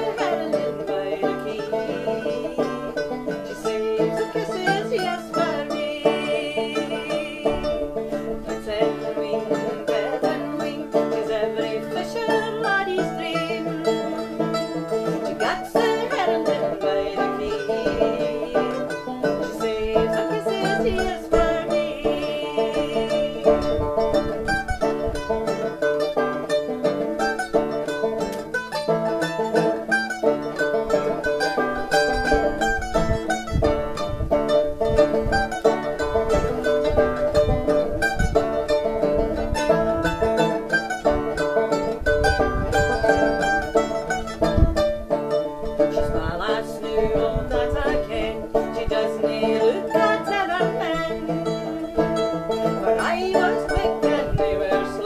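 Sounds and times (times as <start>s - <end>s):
banjo: 0.0s - 55.0s
mandolin: 0.0s - 55.0s.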